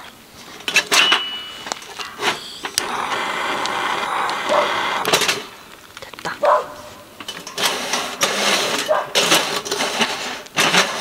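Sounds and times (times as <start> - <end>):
hissing gas flame: 1.6 - 11.0.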